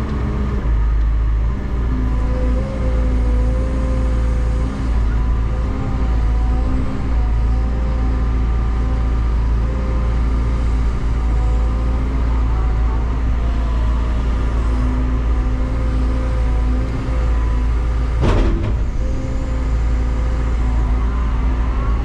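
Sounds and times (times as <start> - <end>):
excavator diesel engine rumbling: 0.0 - 22.0.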